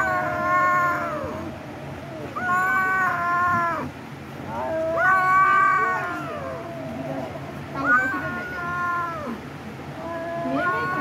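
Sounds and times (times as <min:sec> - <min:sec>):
cat meowing: 0:00.0 - 0:03.9, 0:04.5 - 0:09.4, 0:10.0 - 0:11.0.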